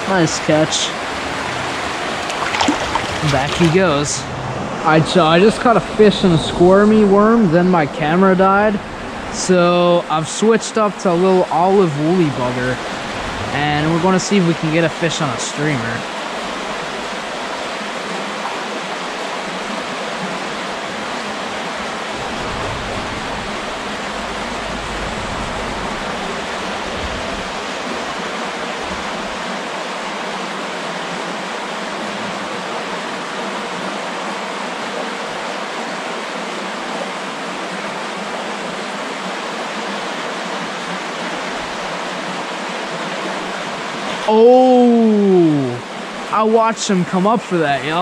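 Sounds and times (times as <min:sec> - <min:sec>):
creek water rushing: 0:00.0 - 0:48.0.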